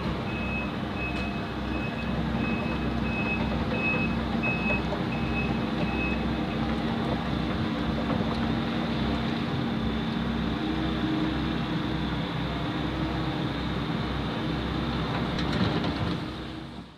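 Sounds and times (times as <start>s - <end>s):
diesel construction equipment running: 0.0s - 16.9s.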